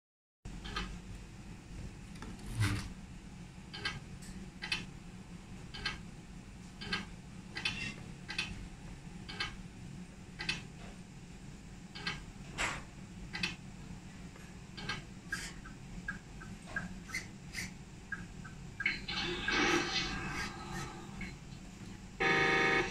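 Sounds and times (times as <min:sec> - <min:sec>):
steady low hum: 0:00.5 - 0:22.9.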